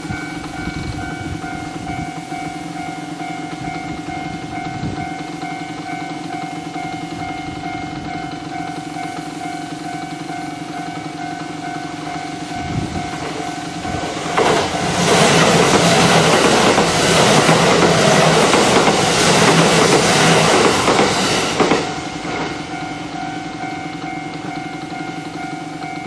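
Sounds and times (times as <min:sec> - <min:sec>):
level crossing warning bell: 0:00.0 - 0:26.0
train wheels clattering over rails: 0:00.0 - 0:26.0.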